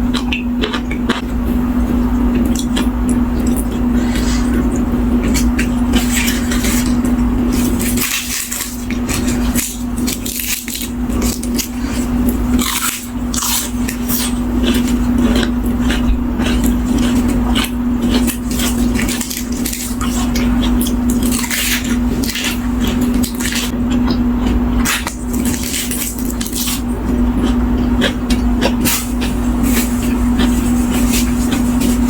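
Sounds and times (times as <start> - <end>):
crunching and chewing food: 0.0 - 32.0
low electrical hum: 0.0 - 32.0.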